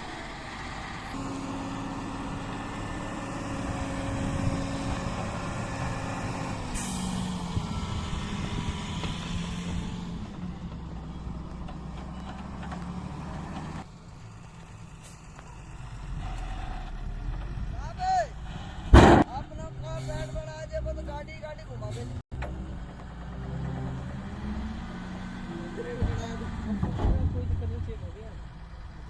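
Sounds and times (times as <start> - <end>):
heavy diesel engines running: 0.0 - 29.0.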